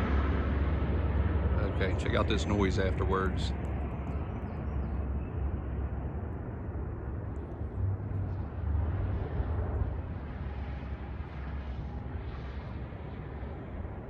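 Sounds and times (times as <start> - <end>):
airplane low uneven rumble: 0.0 - 14.0.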